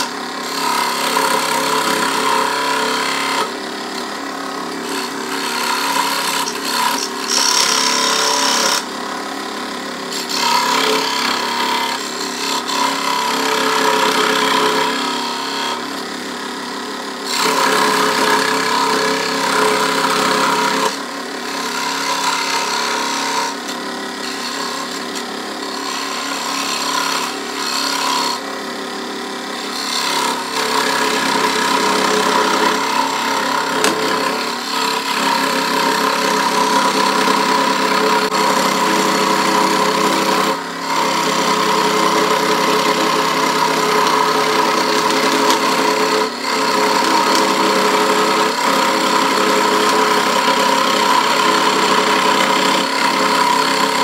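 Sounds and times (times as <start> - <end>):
saw blade rasping through board: 0.0 - 54.0.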